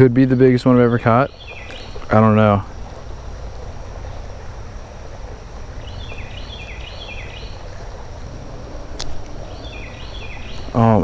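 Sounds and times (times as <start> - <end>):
high insect drone: 0.0 - 11.0
steady low rumble: 0.0 - 11.0.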